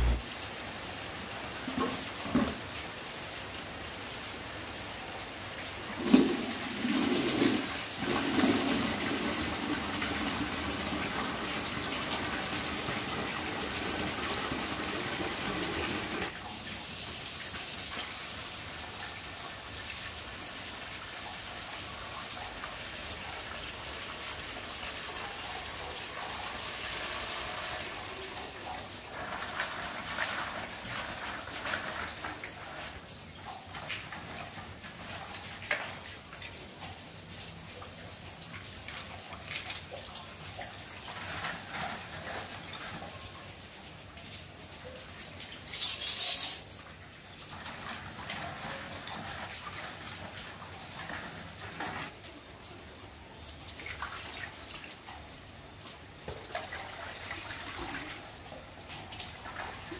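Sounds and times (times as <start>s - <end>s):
water gushing: 0.0s - 59.9s.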